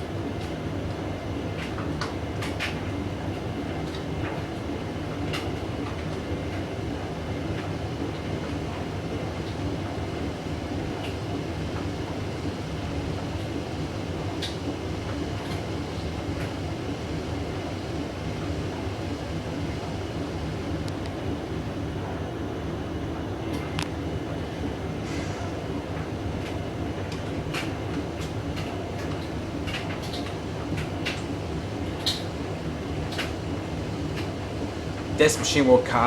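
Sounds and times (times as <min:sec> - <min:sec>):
washing machine drum spinning: 0:00.0 - 0:36.0.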